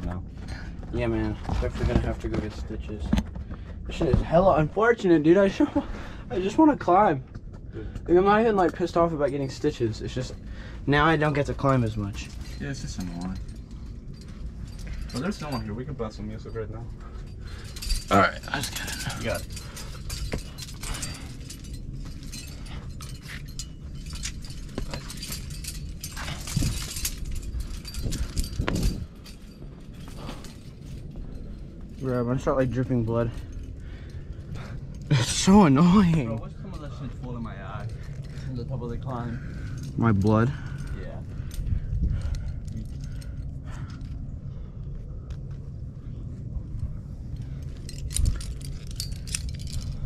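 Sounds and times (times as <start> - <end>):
climbing gear clinking: 0.0 - 50.0
low rumble: 0.0 - 50.0.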